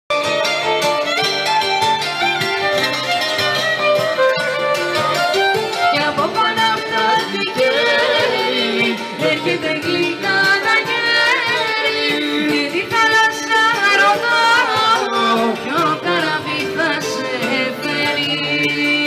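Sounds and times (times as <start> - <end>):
guitar accompaniment: 0.1 - 19.0
violin melody: 0.1 - 19.0.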